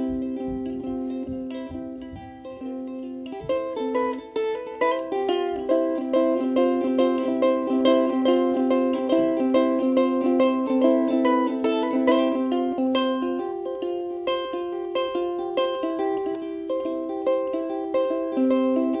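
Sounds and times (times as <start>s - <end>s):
ukulele plucked notes: 0.0s - 19.0s.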